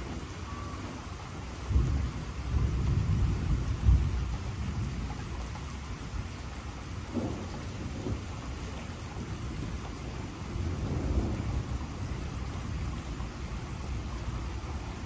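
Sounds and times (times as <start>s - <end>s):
low rumble of thunder: 0.0s - 15.0s
rain falling: 0.0s - 15.0s.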